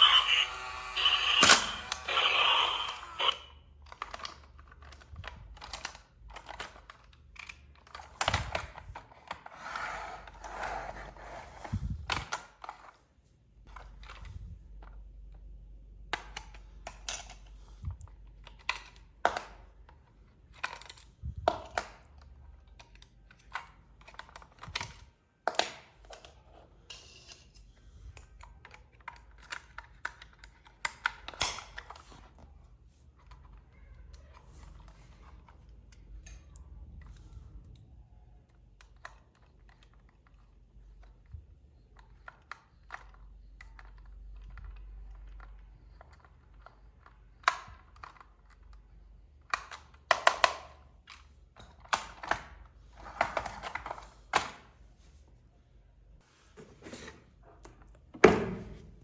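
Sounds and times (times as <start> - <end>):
plastic parts clicking and tapping: 0.0 - 9.5, 13.7 - 37.8, 38.4 - 54.7.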